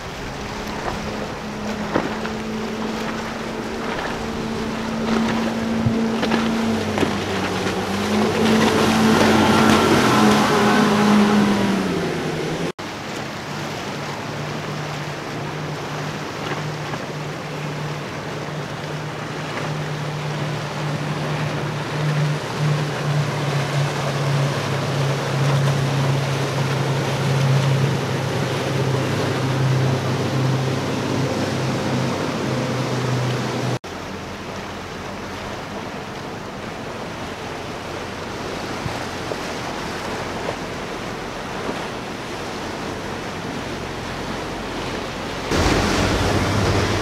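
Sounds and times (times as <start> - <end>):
outboard boat engine running: 0.0 - 47.0
outboard boat passing at speed: 0.0 - 47.0
water splashing off hull: 0.0 - 47.0.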